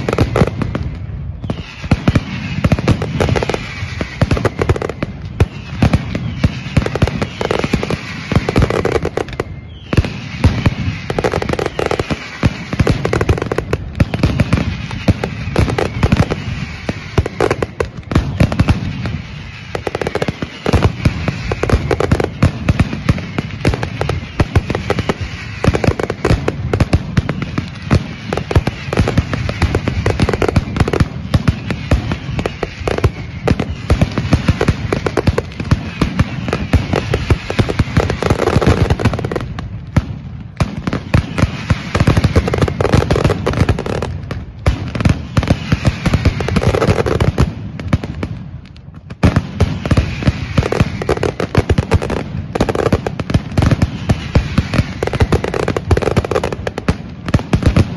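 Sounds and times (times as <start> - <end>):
firecrackers rapid barrage: 0.0 - 57.9.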